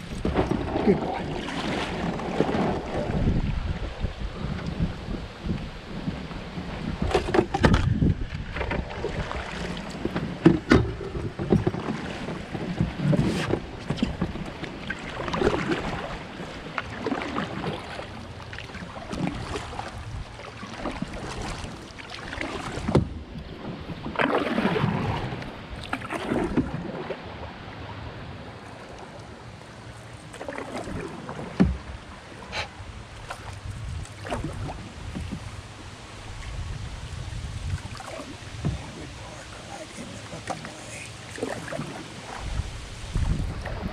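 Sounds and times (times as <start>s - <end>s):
paddle splashing in water: 0.0s - 43.9s.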